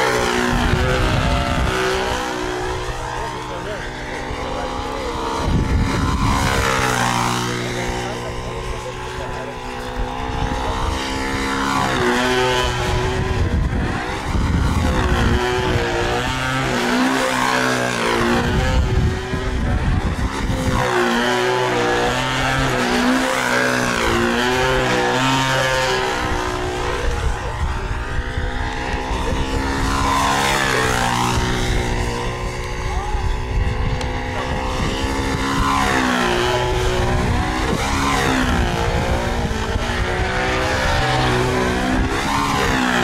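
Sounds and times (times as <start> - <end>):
model airplane engine running: 0.0 - 43.0.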